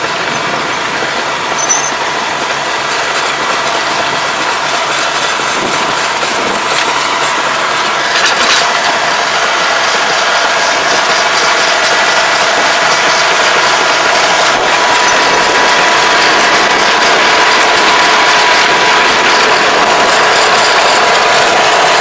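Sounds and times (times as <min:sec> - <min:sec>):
tractor engine with rattling tiller: 0:00.0 - 0:22.0.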